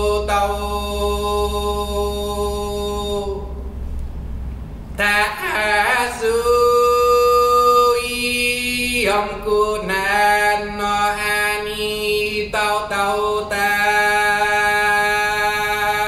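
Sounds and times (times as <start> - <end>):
person singing wordless chant: 0.0 - 3.6, 5.0 - 16.0.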